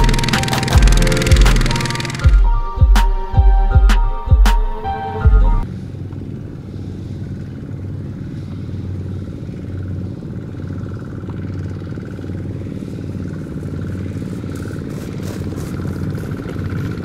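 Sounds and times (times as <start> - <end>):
diesel engine running steadily: 0.0 - 2.8, 4.8 - 17.0.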